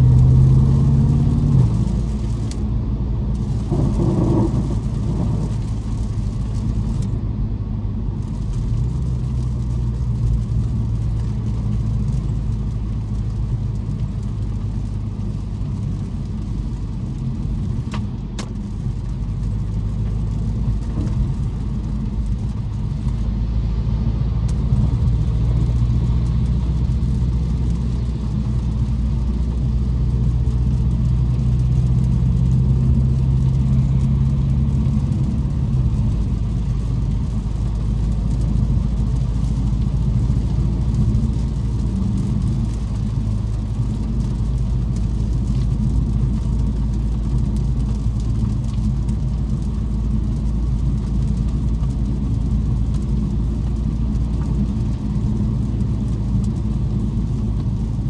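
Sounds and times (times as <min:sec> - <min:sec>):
tyres hissing on wet road: 0:00.0 - 0:02.6, 0:03.3 - 0:07.2, 0:08.1 - 0:58.0
car engine drone: 0:00.0 - 0:58.0.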